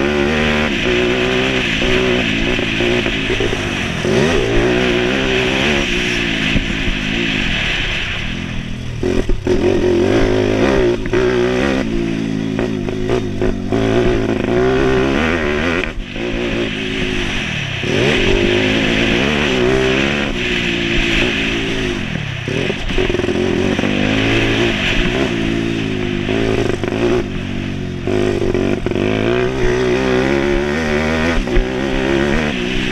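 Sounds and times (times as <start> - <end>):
motorbike engine revving: 0.0 - 32.9.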